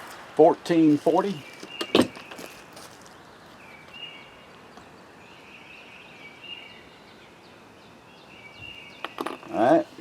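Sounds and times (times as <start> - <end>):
birds chirping and whistling: 1.2 - 9.9.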